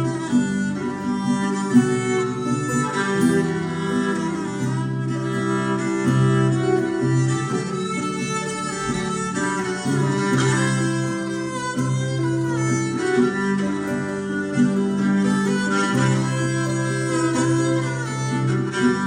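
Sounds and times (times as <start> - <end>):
bowed strings: 0.0 - 19.0
plucked strings: 0.0 - 19.0.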